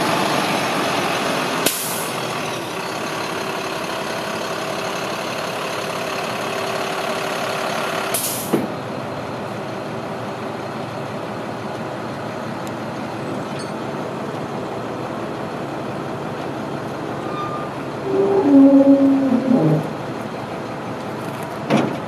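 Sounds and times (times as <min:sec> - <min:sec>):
diesel truck engine idling: 0:00.0 - 0:21.7.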